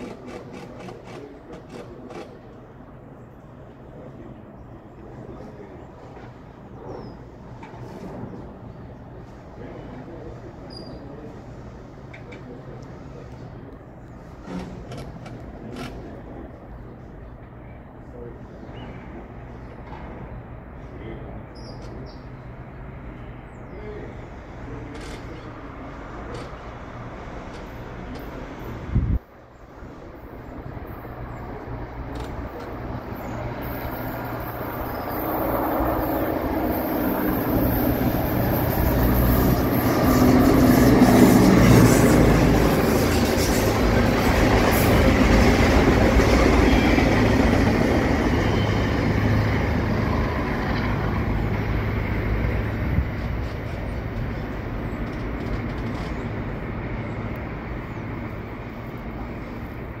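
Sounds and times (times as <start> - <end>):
freight train rumbling past: 0.0 - 60.0.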